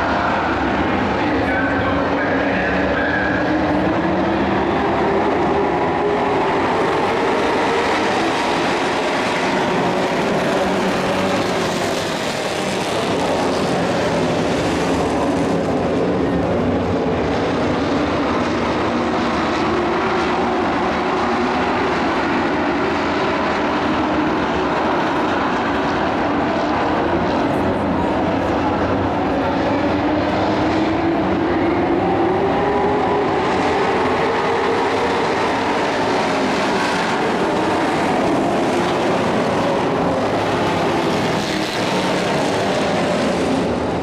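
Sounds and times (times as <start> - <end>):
racing truck engines: 0.0 - 44.0.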